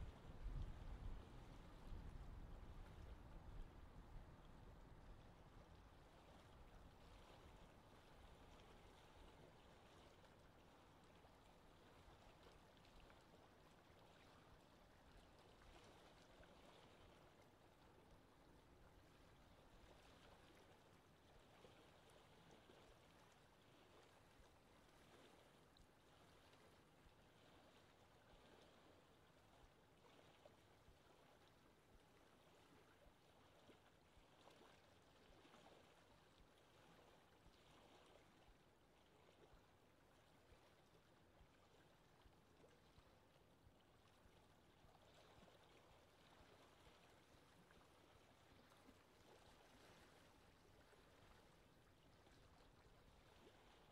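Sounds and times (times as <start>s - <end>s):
faint lapping water: 0.0s - 53.9s.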